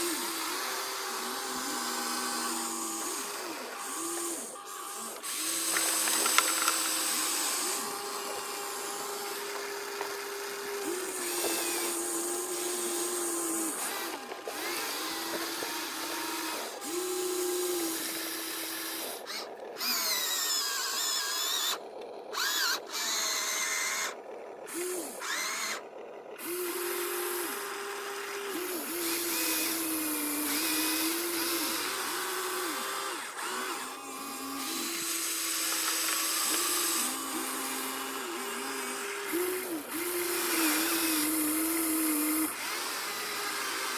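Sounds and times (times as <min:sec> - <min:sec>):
small electric motors whining: 0:00.0 - 0:43.9.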